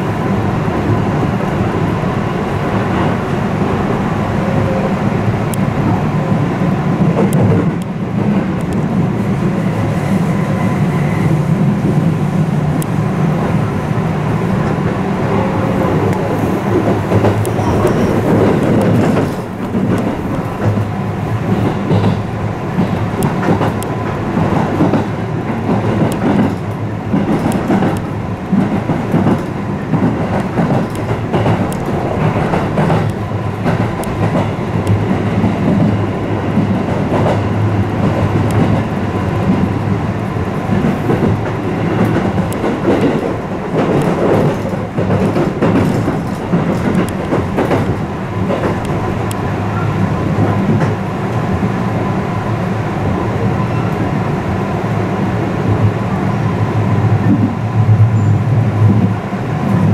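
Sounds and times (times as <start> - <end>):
train wheels and motors rumbling: 0.0 - 59.9.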